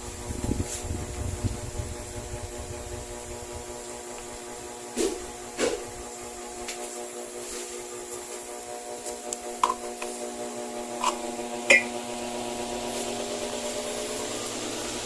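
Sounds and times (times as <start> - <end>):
fan motor hum and blade rush: 0.0 - 15.0.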